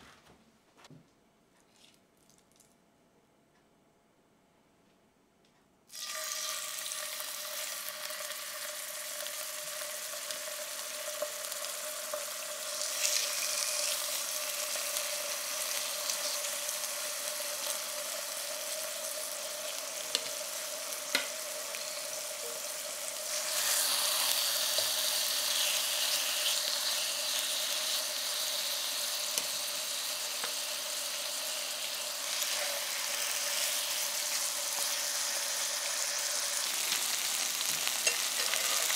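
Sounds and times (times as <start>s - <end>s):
chicken sizzling in oil: 5.9s - 38.9s.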